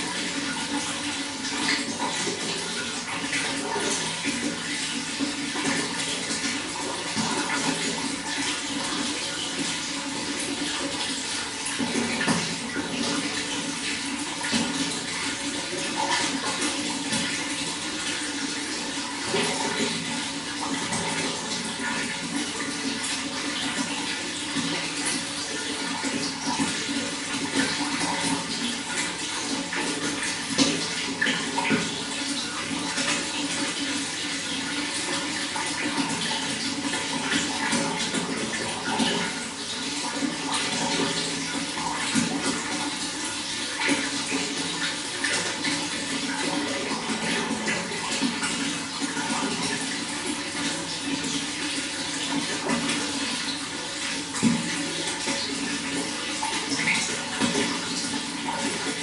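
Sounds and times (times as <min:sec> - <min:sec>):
water flowing and splashing: 0:00.0 - 0:59.0.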